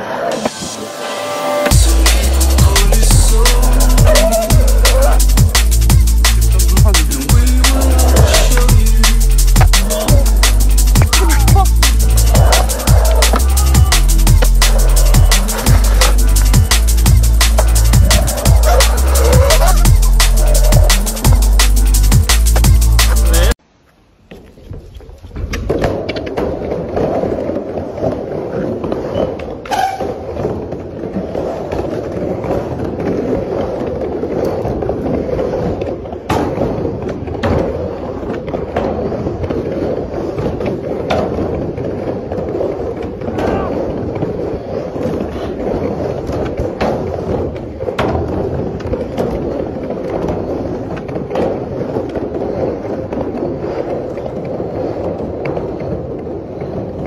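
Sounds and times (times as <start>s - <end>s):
skateboard wheels rolling on concrete: 0.0s - 57.0s
skateboard clacks: 1.7s - 23.6s, 24.3s - 57.0s.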